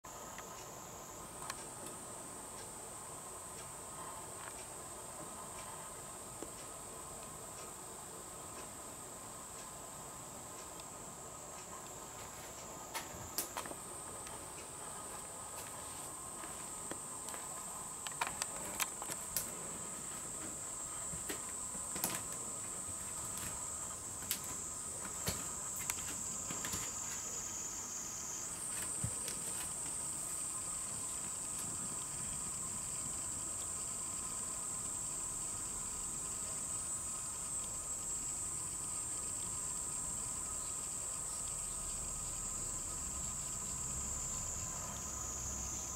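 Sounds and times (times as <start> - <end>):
insects trilling: 0.1 - 45.9.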